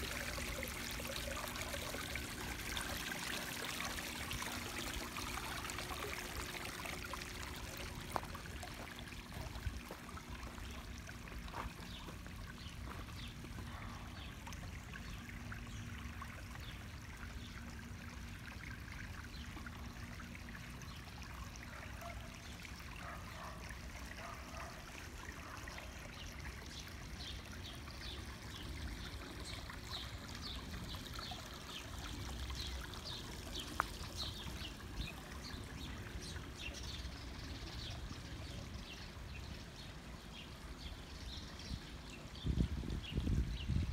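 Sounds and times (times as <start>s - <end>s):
fountain water trickling: 0.0s - 43.9s.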